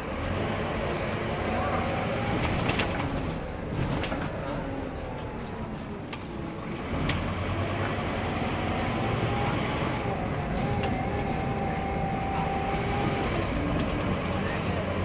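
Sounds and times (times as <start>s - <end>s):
diesel bus engine rumbling: 0.0s - 15.0s
engine whine: 0.0s - 15.0s.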